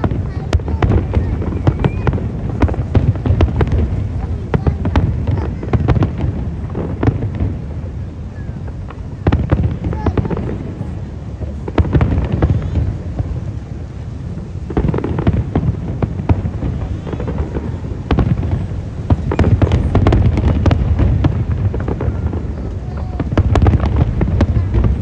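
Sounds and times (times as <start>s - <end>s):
fireworks booming: 0.0s - 25.0s
fireworks crackling: 0.0s - 25.0s.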